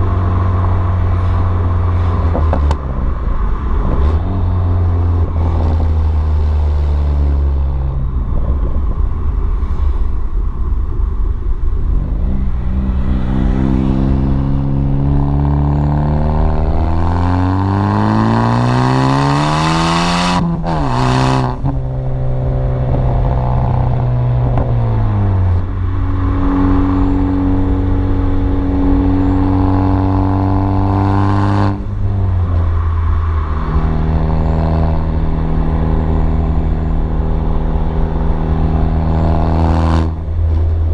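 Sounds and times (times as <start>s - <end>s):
turbocharged car engine revving: 0.0s - 40.9s.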